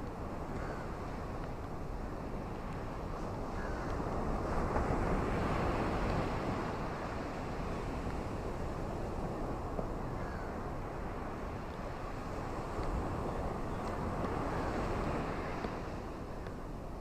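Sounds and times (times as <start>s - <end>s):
ocean surf on beach: 0.0s - 17.0s.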